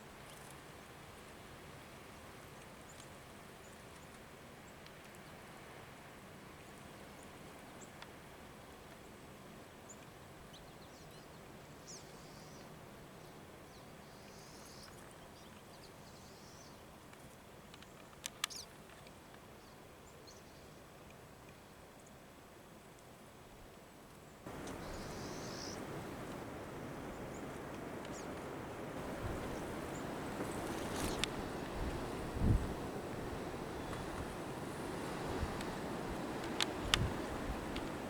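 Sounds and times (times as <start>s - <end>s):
faint outdoor background noise: 0.0s - 38.0s.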